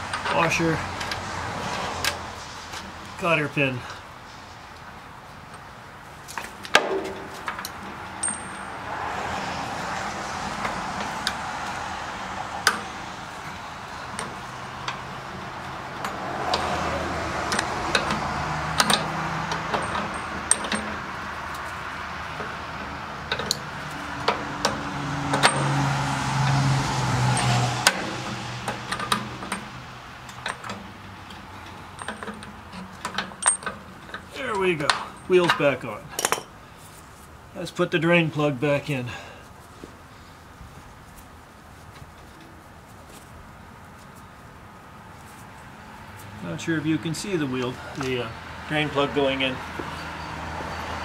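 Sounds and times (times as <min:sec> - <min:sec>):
passing car road noise: 0:00.0 - 0:51.0.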